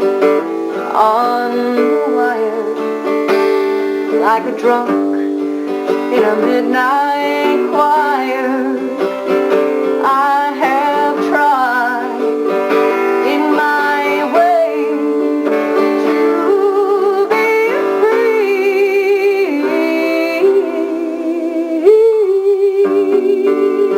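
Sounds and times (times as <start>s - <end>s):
plucked guitar: 0.0s - 23.9s
woman singing: 0.0s - 23.9s.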